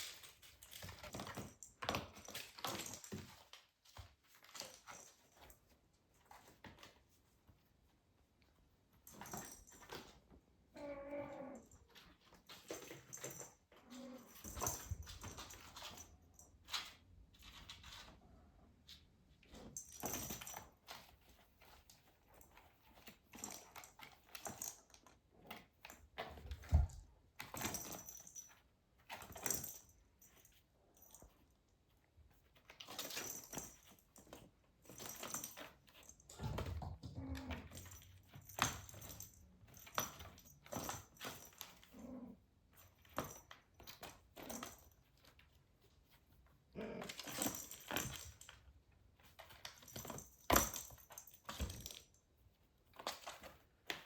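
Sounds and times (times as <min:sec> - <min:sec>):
kittens rustling toys: 0:00.0 - 0:54.0.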